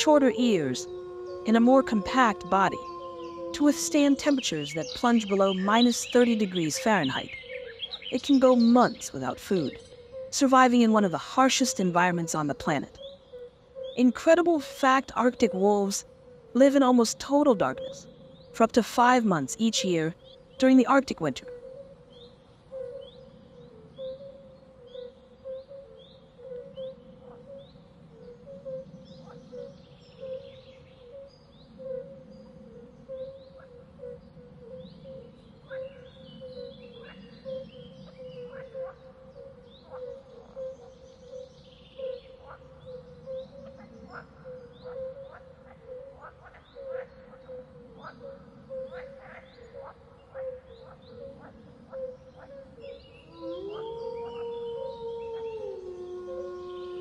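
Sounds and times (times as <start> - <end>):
birds chirping: 0.0 - 16.0, 16.6 - 57.0.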